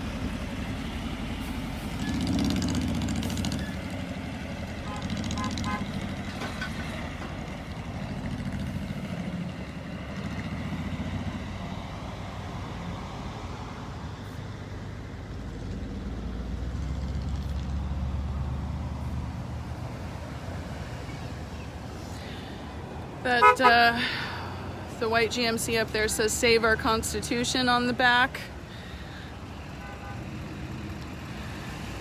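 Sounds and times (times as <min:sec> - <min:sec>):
cars and trucks driving past: 0:00.0 - 0:32.0.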